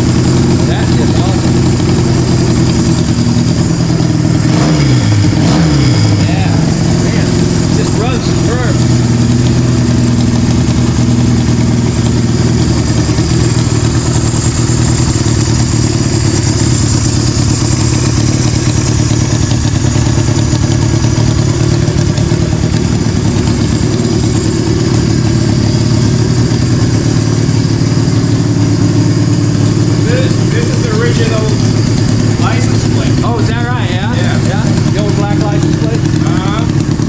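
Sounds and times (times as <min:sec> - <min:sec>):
loud motorcycle engine running: 0:00.0 - 0:37.0.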